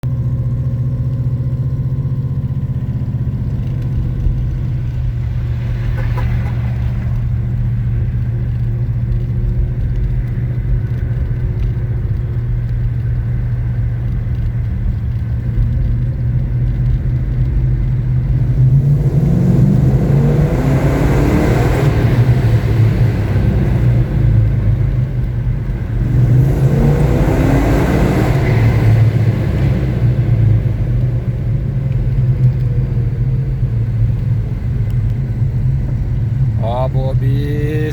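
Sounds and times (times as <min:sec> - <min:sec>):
car engine rumbling and accelerating: 0:00.0 - 0:37.9.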